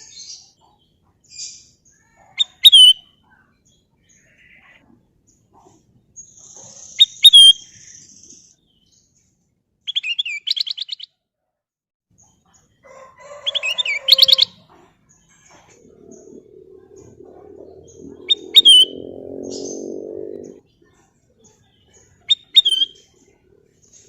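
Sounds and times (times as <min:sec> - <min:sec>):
bird chirping: 0:00.0 - 0:11.2, 0:12.2 - 0:24.0.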